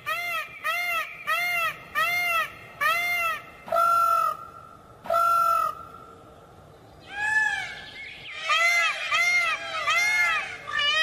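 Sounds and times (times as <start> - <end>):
peacock calling: 0.0 - 6.2, 7.0 - 11.0.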